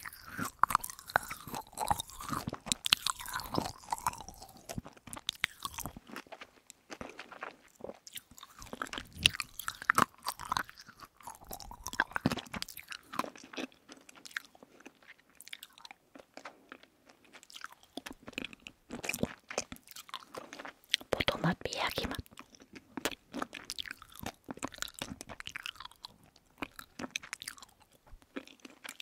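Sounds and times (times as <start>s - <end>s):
chewing candy: 0.0s - 29.0s.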